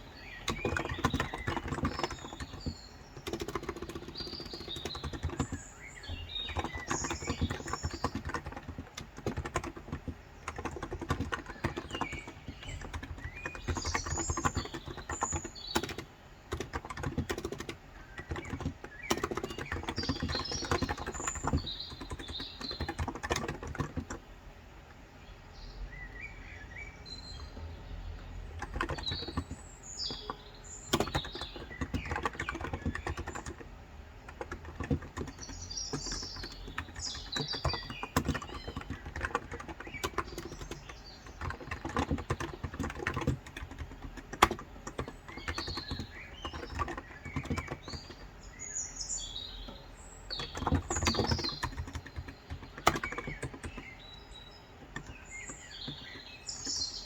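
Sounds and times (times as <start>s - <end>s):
keyboard typing: 0.0s - 24.3s, 27.1s - 48.6s, 49.5s - 57.0s
small birds chirping: 0.0s - 57.0s.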